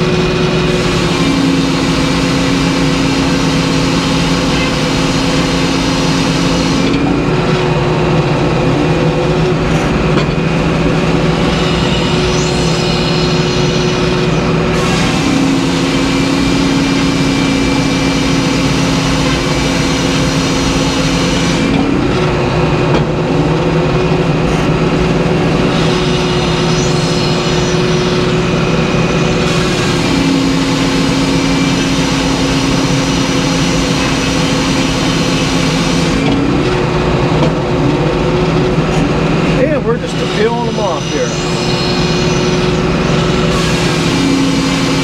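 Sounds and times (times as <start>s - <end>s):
circular saw blade cutting log: 0.0s - 7.7s, 9.7s - 22.1s, 25.6s - 36.8s, 37.4s - 45.0s
engine running hard: 0.0s - 45.0s.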